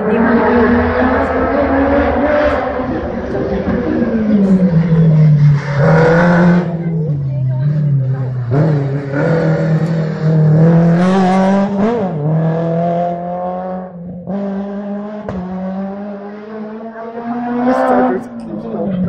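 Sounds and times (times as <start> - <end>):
car engine at high revs: 0.0 - 19.0.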